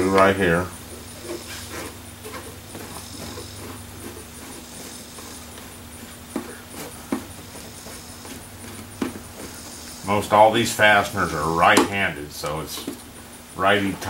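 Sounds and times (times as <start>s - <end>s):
gloved hands rubbing plastic: 0.0s - 11.6s
steady low hum: 0.0s - 14.0s.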